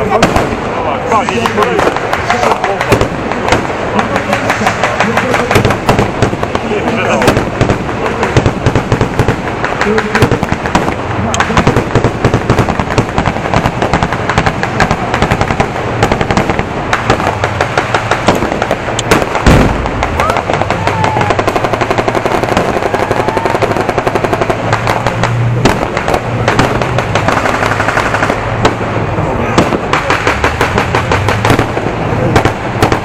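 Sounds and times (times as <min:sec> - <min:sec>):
heavy blast: 0:00.0 - 0:33.0
machine-gun and rifle fire: 0:00.0 - 0:33.0.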